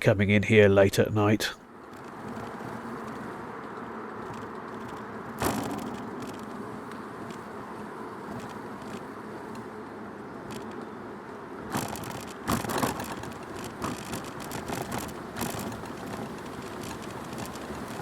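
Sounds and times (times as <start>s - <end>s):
bike rattling and knocking: 1.6s - 9.8s, 10.4s - 10.9s, 11.6s - 18.0s
bicycle tyres rolling on path: 1.6s - 18.0s.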